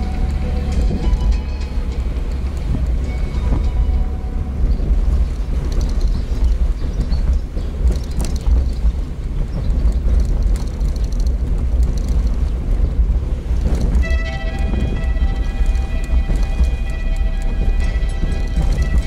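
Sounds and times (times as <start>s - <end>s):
road and engine noise: 0.0s - 19.0s
wind buffeting microphone: 0.0s - 19.0s.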